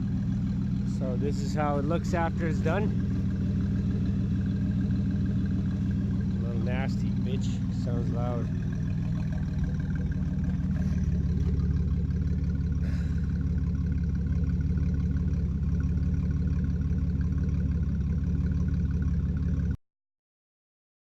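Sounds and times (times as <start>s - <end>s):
truck engine idling loudly: 0.0s - 19.8s.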